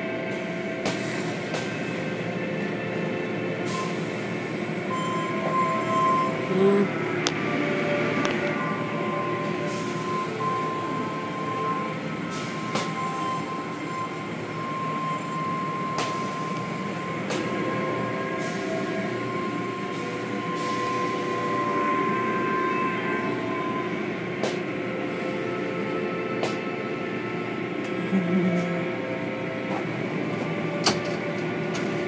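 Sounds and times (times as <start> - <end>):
steady high whine: 0.0 - 32.0.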